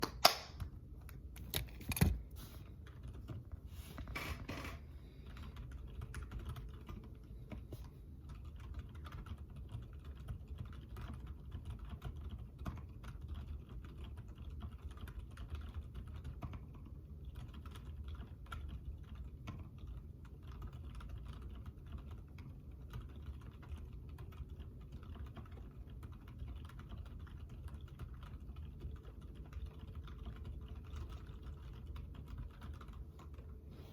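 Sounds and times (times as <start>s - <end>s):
mechanical keyboard typing: 2.8s - 3.5s, 4.2s - 7.3s, 8.2s - 33.5s.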